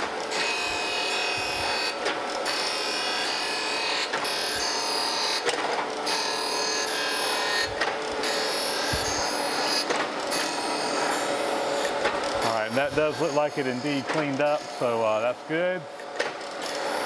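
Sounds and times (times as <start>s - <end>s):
grinder wheel grinding metal: 0.0s - 15.2s.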